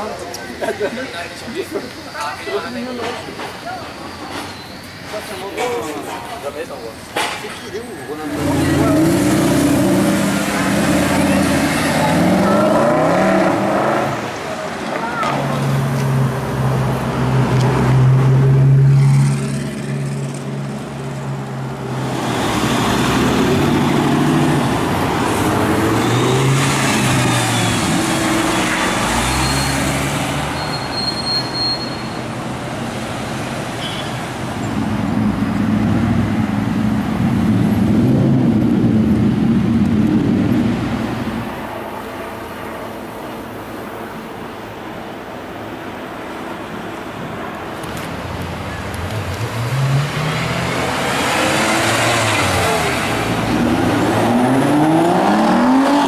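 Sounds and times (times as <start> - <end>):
vehicles passing by: 0.0 - 56.0.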